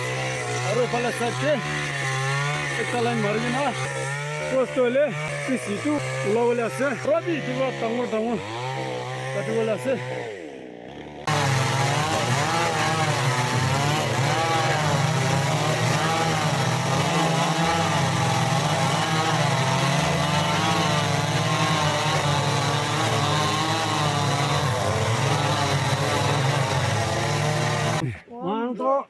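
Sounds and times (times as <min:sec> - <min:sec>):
chainsaw cutting wood: 0:00.0 - 0:28.2.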